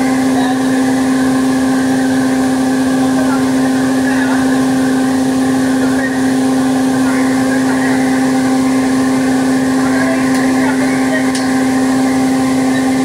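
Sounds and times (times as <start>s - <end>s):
air conditioning machine hum: 0.0s - 13.0s.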